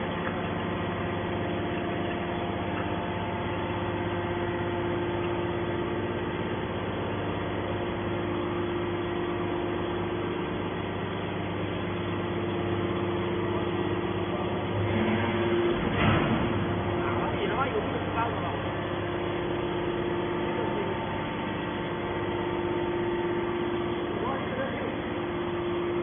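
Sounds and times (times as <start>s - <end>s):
hydraulic baler motor humming: 0.0s - 26.0s.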